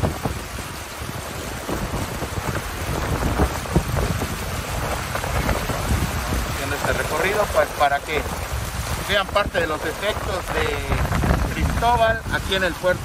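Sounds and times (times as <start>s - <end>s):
floodwater churning and splashing: 0.0s - 13.0s
wind rumble on microphone: 0.0s - 13.0s.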